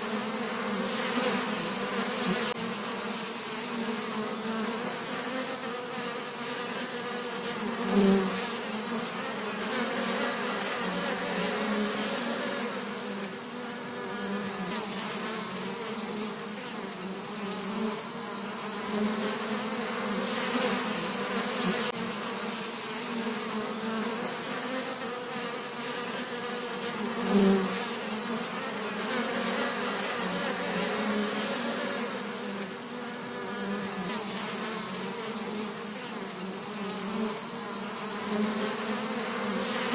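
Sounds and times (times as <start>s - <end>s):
bee buzzing: 0.0s - 39.9s.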